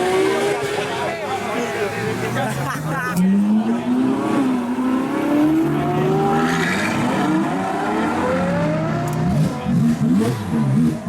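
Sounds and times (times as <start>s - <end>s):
sports car engines accelerating: 0.0s - 11.0s.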